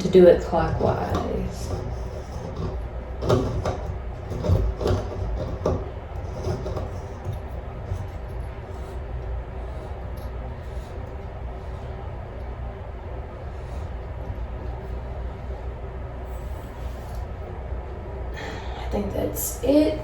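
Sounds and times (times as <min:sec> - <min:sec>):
knocks and scrapes of handling: 0:00.0 - 0:17.6
steady low hum: 0:00.0 - 0:20.0.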